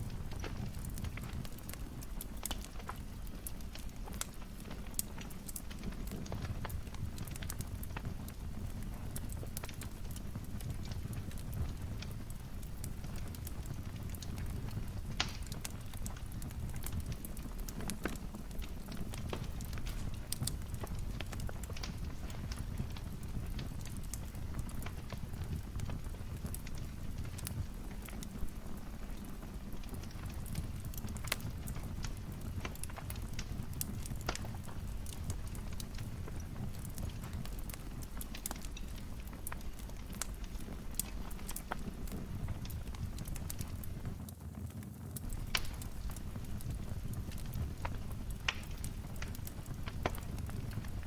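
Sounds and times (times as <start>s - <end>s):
fire popping: 0.0s - 51.0s
low rumble of burning: 0.0s - 51.0s
wood fire crackling: 0.0s - 51.0s.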